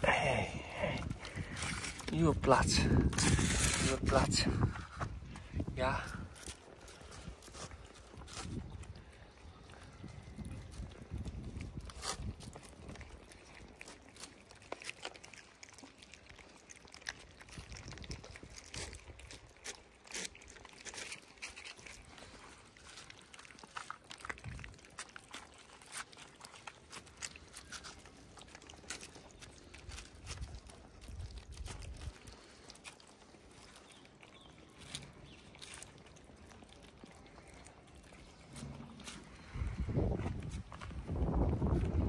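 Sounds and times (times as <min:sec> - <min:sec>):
cats chewing and smacking: 0:00.0 - 0:42.0
kibble crunching: 0:00.0 - 0:42.0.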